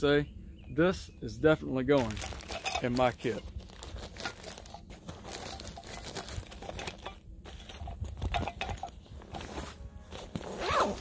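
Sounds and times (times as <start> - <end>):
gear rustling and crinkling: 1.8 - 11.0.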